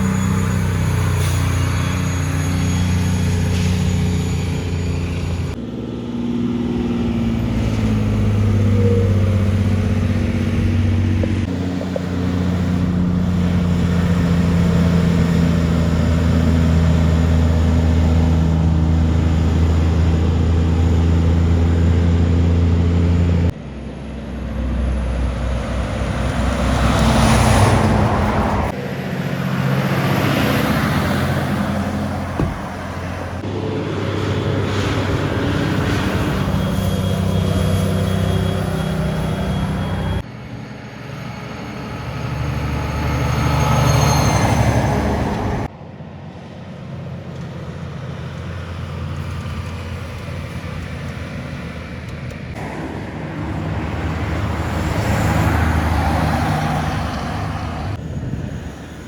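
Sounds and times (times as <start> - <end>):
truck diesel engines running: 0.0 - 59.0
tyre noise of passing vehicle: 0.0 - 59.0.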